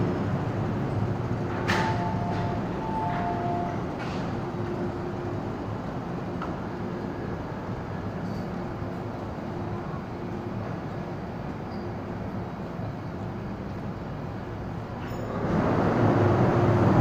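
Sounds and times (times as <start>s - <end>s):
electric train hum: 0.0s - 17.0s
rumble of rail noise: 0.0s - 17.0s.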